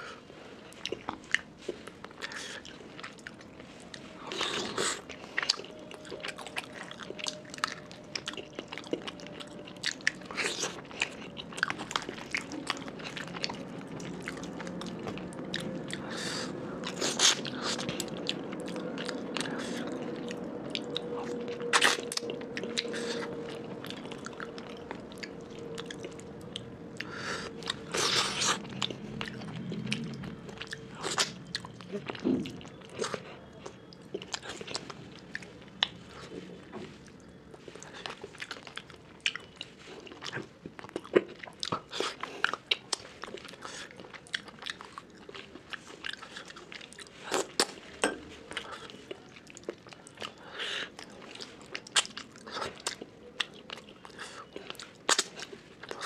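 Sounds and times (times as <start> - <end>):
faint steady hum: 0.0 - 56.0
chewing and wet mouth smacks: 0.7 - 56.0.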